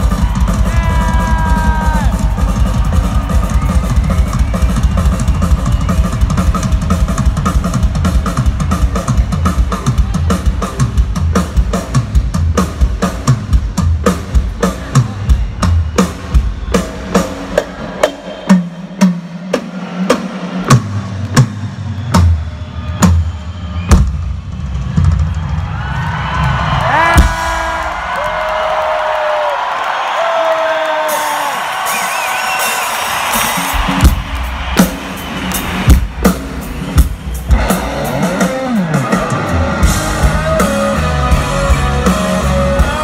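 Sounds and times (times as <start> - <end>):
rock drum kit playing: 0.0 - 43.0.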